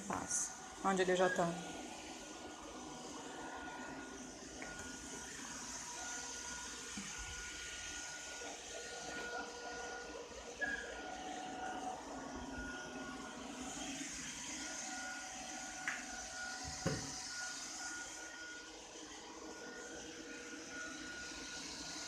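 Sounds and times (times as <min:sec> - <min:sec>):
robot vacuum humming: 0:00.0 - 0:22.0
thin whining tones: 0:00.1 - 0:22.0.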